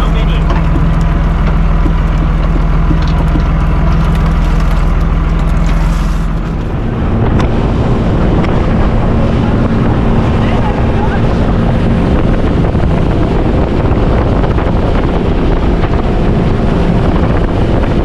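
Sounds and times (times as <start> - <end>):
boat engine running: 0.0 - 18.0
wind buffeting microphone: 0.0 - 18.0.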